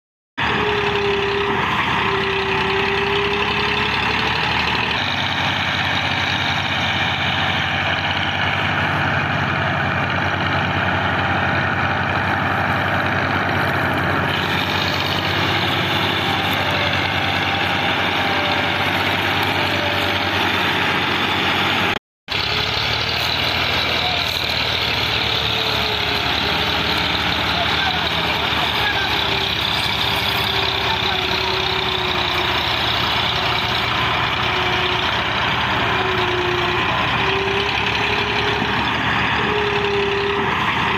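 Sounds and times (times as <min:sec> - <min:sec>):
tractor engines running: 0:00.4 - 0:40.9.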